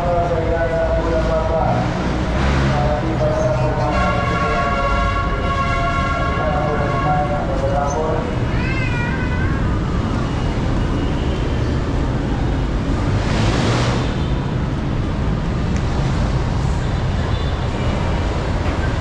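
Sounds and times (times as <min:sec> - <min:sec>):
low rumble of street traffic: 0:00.0 - 0:19.0.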